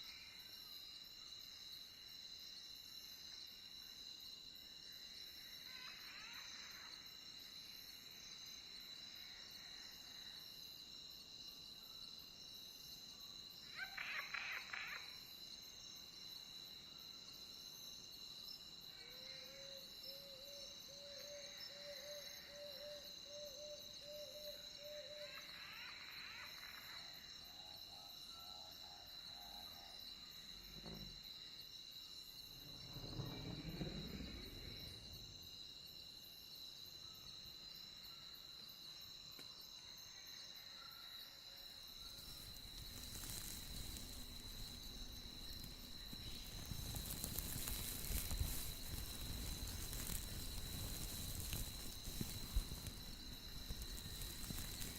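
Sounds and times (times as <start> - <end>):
faint cricket chorus: 0.0 - 54.9.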